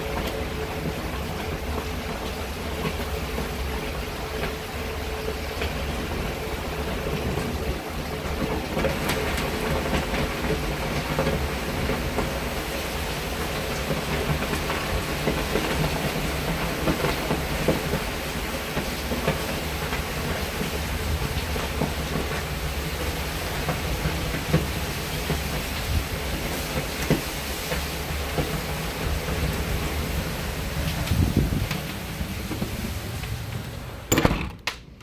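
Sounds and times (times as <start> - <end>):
steady rain hiss: 0.0 - 34.1
constant low rumble: 0.0 - 35.0.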